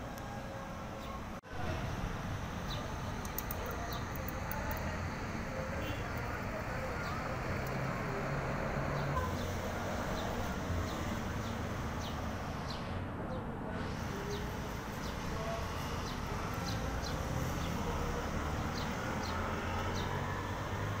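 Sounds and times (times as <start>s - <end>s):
small birds chirping: 2.5s - 13.5s, 14.1s - 21.0s.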